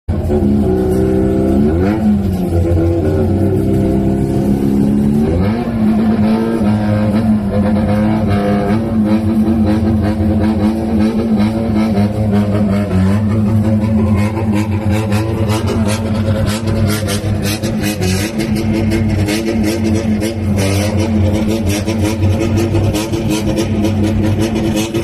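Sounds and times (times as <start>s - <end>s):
motorcycle engines revving: 0.1s - 25.0s.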